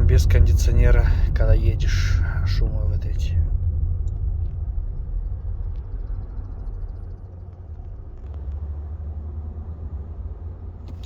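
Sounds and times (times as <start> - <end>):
car cabin rumble while driving: 0.0 - 11.0.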